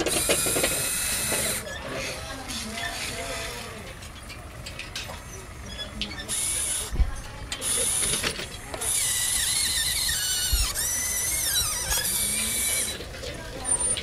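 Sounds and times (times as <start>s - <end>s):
hydraulic pump and motors whining: 0.0s - 14.0s.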